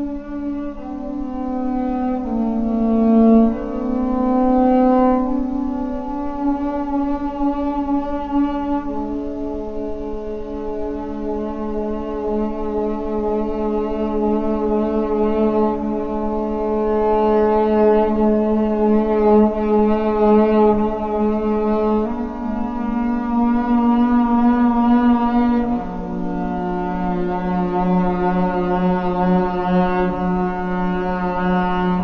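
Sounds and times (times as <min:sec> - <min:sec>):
slow sustained chord music: 0:00.0 - 0:32.0.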